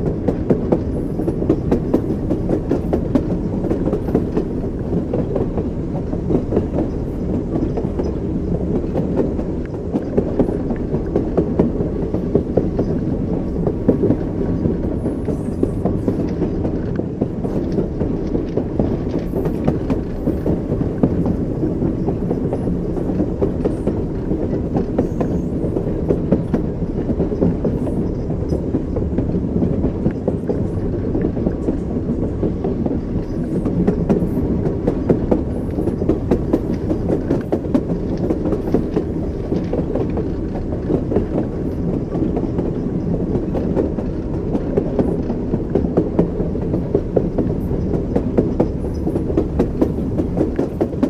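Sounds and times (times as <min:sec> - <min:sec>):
train wheels clacking over rails: 0:00.0 - 0:51.0.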